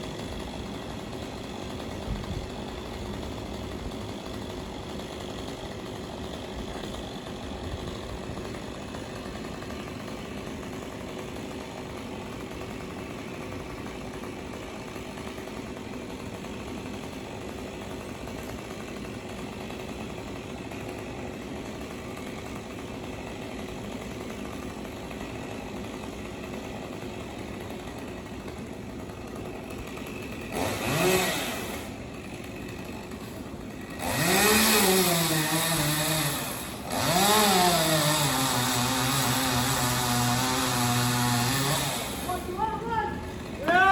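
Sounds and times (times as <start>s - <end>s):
chainsaw engine idling and revving: 0.0s - 43.9s.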